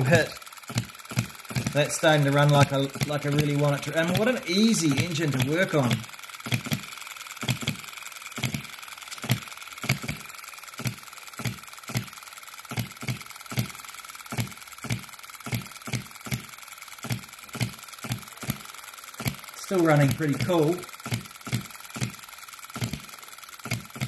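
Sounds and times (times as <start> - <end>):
model engine popping: 0.0 - 24.0.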